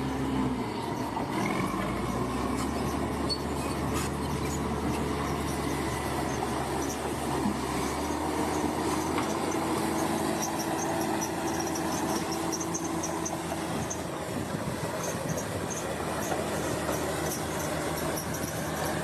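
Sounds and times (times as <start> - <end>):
bulldozer engine running: 0.0 - 19.0
short high squeaks: 1.4 - 14.1, 15.0 - 19.0.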